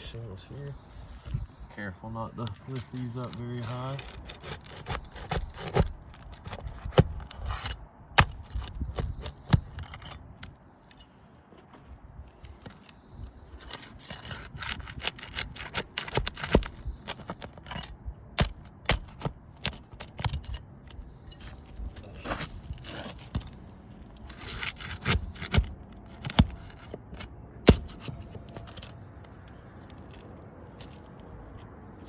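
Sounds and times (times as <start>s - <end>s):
metal tool scraping under shingles: 0.0s - 1.6s, 2.3s - 32.0s.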